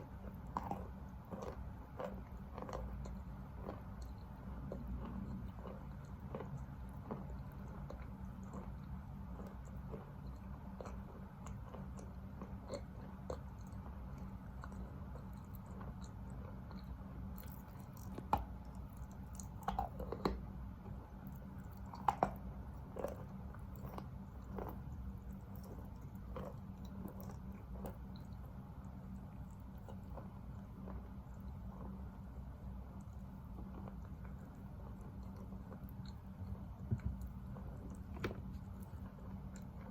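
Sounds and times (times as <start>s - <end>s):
chewing wet chalk: 0.0s - 39.9s.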